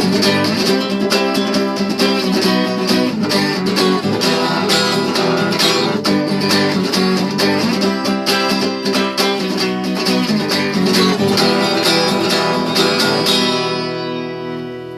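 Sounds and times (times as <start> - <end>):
guitar strummed quickly: 0.0 - 14.9.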